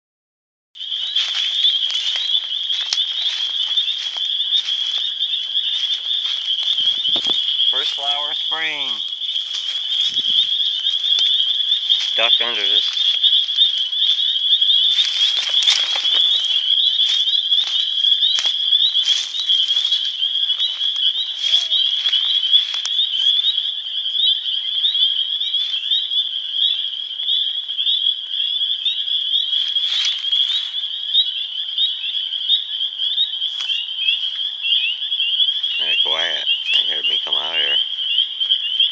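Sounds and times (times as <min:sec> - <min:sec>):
frog chorus: 0:00.8 - 0:38.9.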